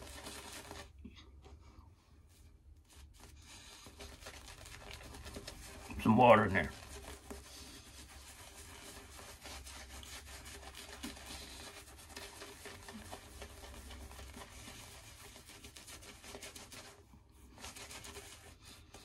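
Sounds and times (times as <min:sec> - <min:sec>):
shaving brush rubbing stubble: 0:00.0 - 0:01.0, 0:02.8 - 0:19.0.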